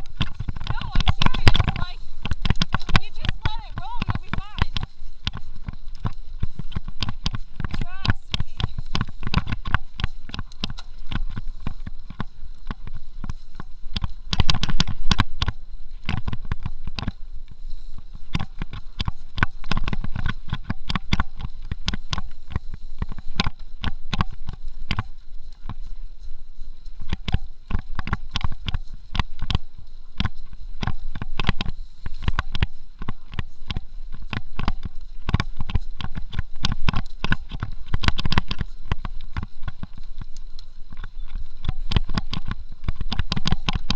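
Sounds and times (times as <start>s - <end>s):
mountain bike rattling on rough trail: 0.0s - 43.9s.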